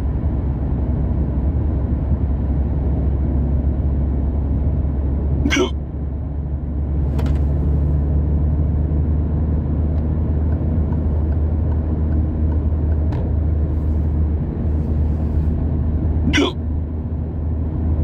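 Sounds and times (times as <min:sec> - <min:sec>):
car rumble from inside cabin: 0:00.0 - 0:18.0.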